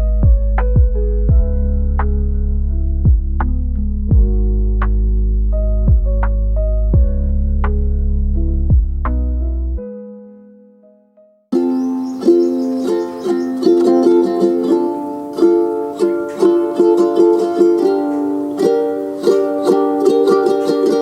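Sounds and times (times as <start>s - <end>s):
plucked-string background music: 0.0s - 10.3s, 11.5s - 21.0s.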